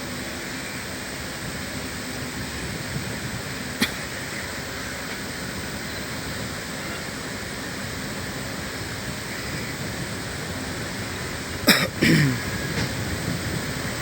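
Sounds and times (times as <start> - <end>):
moving train rushing: 0.0 - 14.0.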